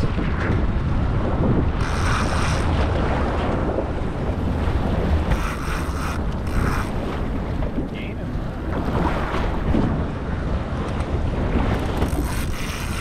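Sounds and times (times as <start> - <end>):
water sloshing against boat hull: 0.0 - 13.0
wind buffeting microphone: 0.0 - 13.0.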